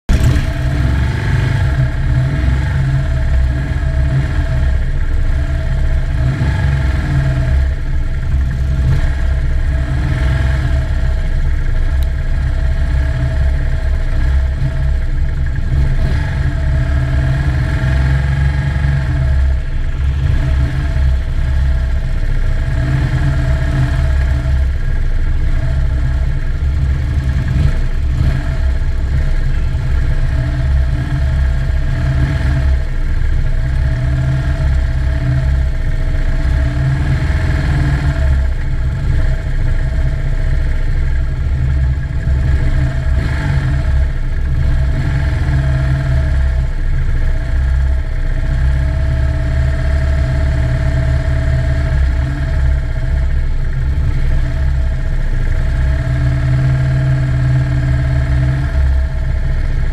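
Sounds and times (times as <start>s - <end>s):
motorcycle engines idling: 0.1s - 59.9s.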